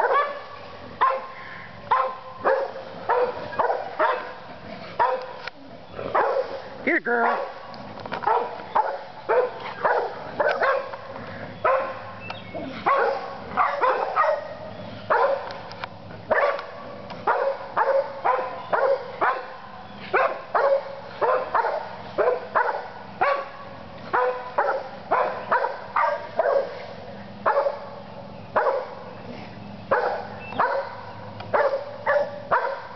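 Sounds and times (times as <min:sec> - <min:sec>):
dog barking: 0:00.0 - 0:04.4, 0:05.0 - 0:05.4, 0:06.1 - 0:06.6, 0:07.2 - 0:07.6, 0:08.2 - 0:11.0, 0:11.6 - 0:12.2, 0:12.8 - 0:15.6, 0:16.3 - 0:26.8, 0:27.4 - 0:28.0, 0:28.6 - 0:29.0, 0:29.9 - 0:32.9.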